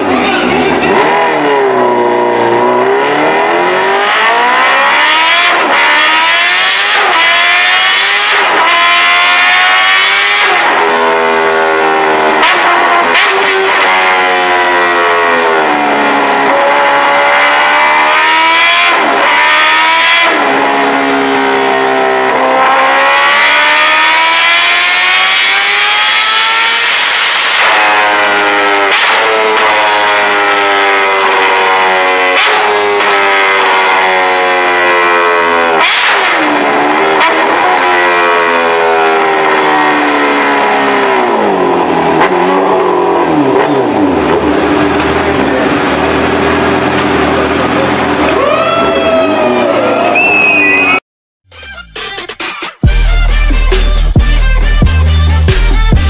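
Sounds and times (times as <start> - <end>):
motorcycle engine revving hard: 0.0 - 48.4.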